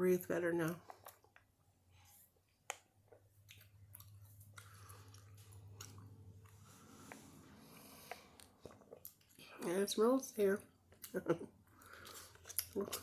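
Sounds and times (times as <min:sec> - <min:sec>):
low steady hum: 0:00.0 - 0:13.0
gum chewing with mouth clicks: 0:00.8 - 0:09.7, 0:10.9 - 0:13.0.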